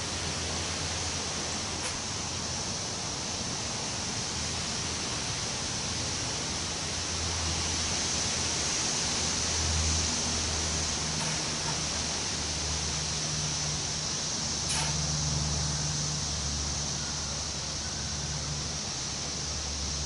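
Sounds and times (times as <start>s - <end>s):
wind blowing through trees: 0.0s - 20.0s.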